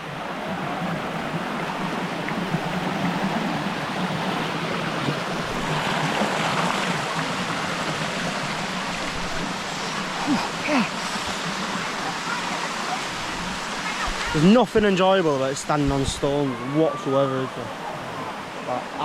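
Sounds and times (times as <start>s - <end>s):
water rushing down waterfall: 0.0s - 19.0s.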